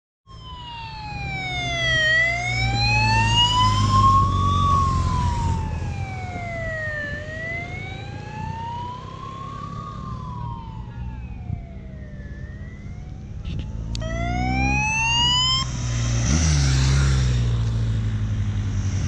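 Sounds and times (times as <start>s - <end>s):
siren wailing: 0.3s - 15.8s
motorcycle engine rumble: 0.3s - 19.0s.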